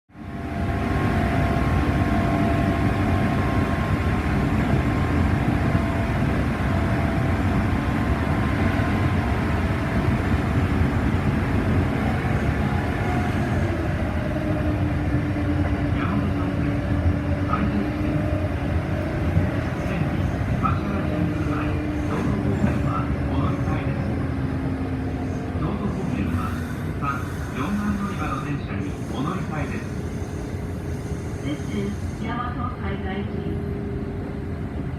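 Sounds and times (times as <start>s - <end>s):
train rumbling on rails: 0.1s - 34.9s.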